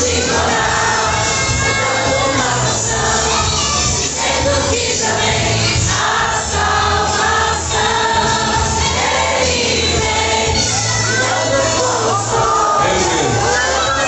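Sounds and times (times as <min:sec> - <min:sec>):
band accompaniment: 0:00.0 - 0:14.0
choir singing gospel: 0:00.0 - 0:14.0.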